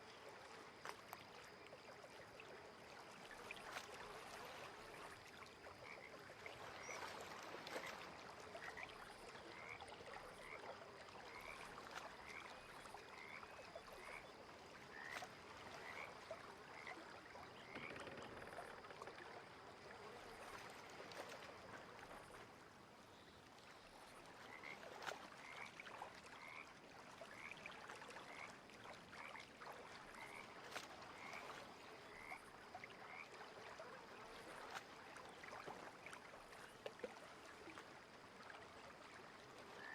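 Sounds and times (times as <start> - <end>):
faint lake water wash: 0.0 - 39.9.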